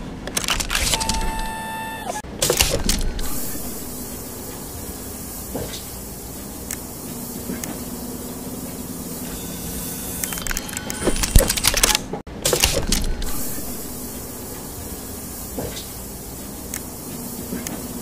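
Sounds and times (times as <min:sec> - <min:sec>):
mechanical clicks and crackles: 0:00.0 - 0:07.9, 0:08.7 - 0:14.8, 0:15.4 - 0:18.0
machine whirring hum with hiss: 0:00.0 - 0:18.0.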